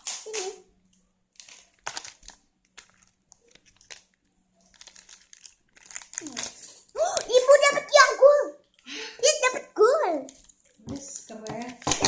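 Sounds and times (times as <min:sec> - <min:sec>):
plastic wrapper crinkling: 0:00.0 - 0:08.0, 0:08.6 - 0:08.9, 0:10.1 - 0:12.0.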